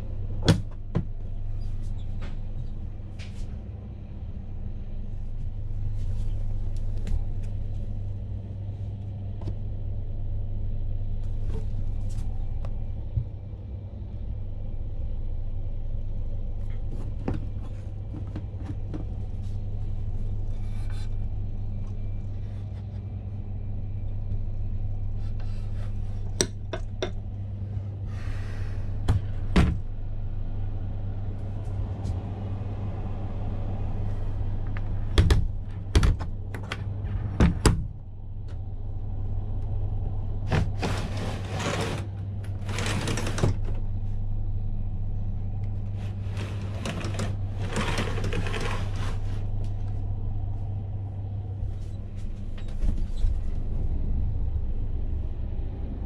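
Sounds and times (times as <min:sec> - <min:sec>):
train interior hum and rumble: 0:00.0 - 0:56.0.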